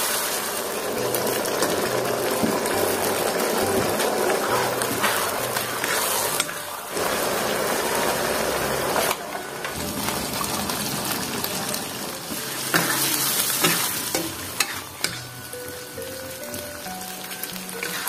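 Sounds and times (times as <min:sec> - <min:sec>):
sauce sizzling in a wok: 0:00.0 - 0:18.0.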